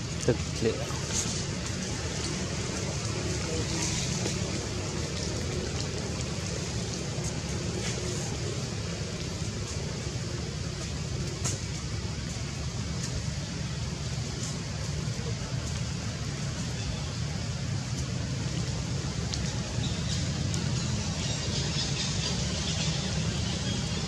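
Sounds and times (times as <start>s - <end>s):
light rain: 0.0s - 24.0s.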